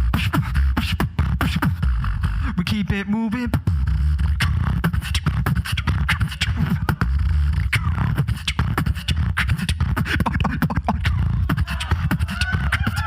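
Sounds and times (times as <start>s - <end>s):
beatboxing into a microphone: 0.0s - 13.0s.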